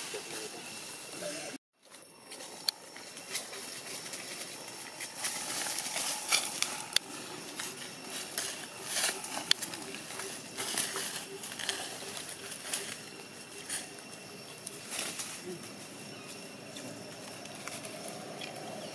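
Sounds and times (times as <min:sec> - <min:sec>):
dry leaves rustling and crackling: 0:00.0 - 0:18.9.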